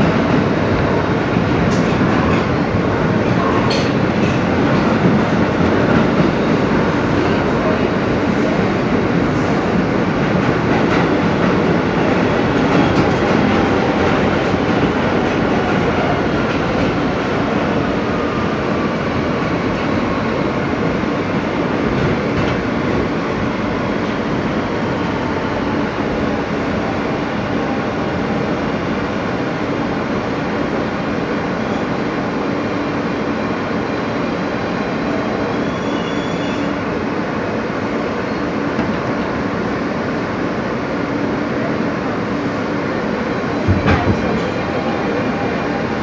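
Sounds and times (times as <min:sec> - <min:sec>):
subway car rumbling on rails: 0:00.0 - 0:46.0.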